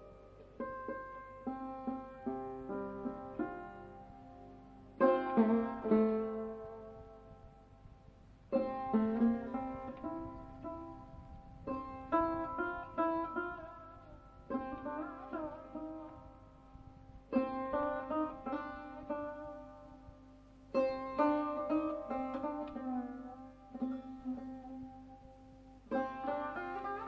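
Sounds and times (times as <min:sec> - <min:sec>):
plucked string instrument music: 0:00.0 - 0:27.0.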